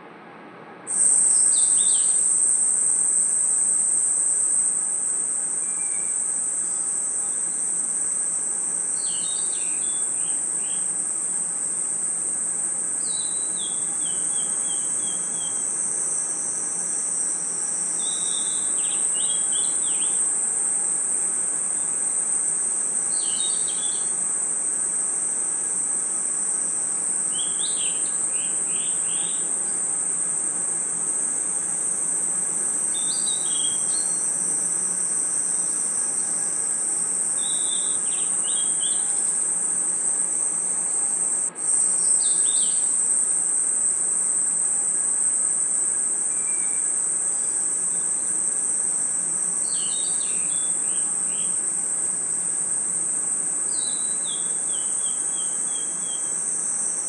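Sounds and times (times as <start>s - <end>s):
insects trilling: 0.9s - 57.0s
lower insect chirps: 0.9s - 57.0s.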